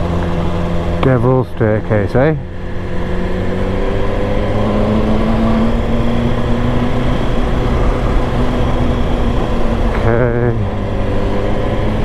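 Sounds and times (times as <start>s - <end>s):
motorcycle engine running: 0.0s - 12.0s
rushing wind: 0.0s - 12.0s.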